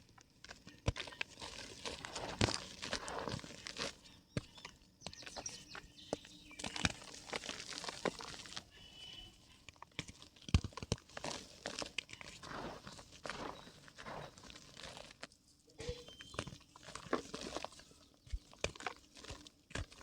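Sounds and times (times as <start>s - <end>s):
dry mud crumbling and crunching: 0.0s - 20.0s.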